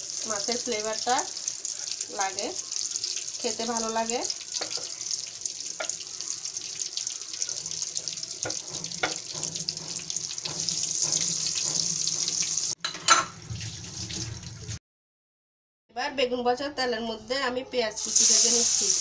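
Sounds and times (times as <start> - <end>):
food sizzling in hot oil: 0.0 - 14.8, 18.0 - 19.0.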